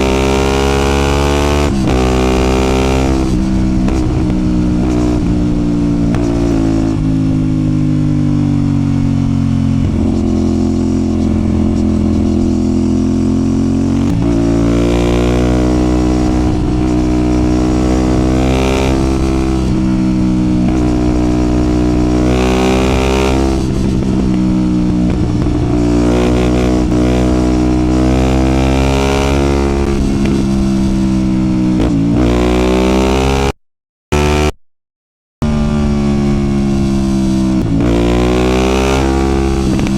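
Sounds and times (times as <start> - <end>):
motorcycle engine revving: 0.0 - 34.6, 35.4 - 39.9.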